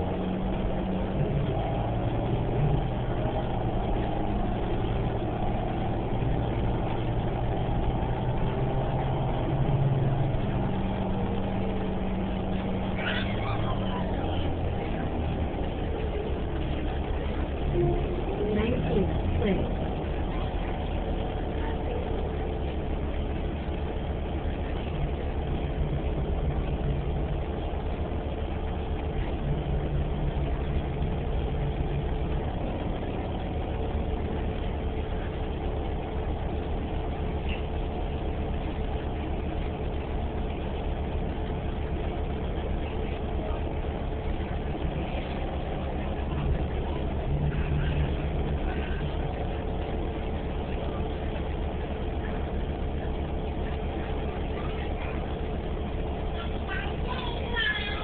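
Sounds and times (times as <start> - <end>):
bus engine drone: 0.0 - 58.0
faint steady whine: 0.0 - 58.0
low hum: 0.0 - 58.0.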